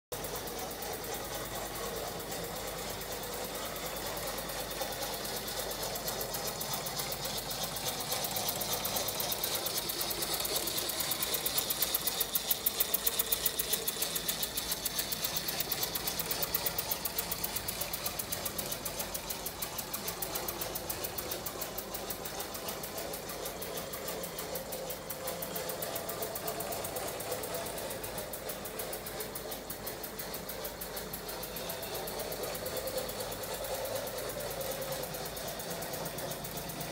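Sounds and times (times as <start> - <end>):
steam engine mechanical clatter: 0.1 - 36.9.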